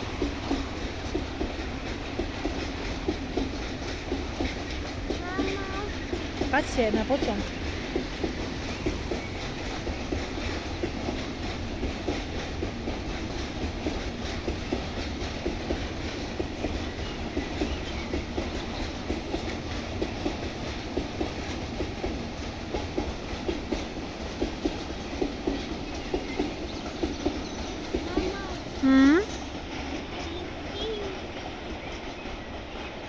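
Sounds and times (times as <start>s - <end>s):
freight train rumbling past: 0.0s - 33.0s
wheels clacking over rail joints: 0.0s - 33.0s.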